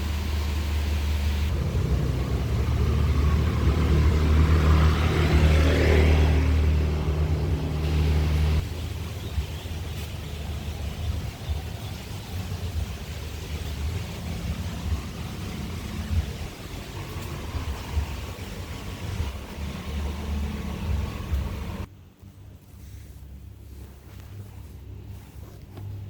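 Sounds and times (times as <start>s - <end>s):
car engine low rumble: 0.0s - 26.0s.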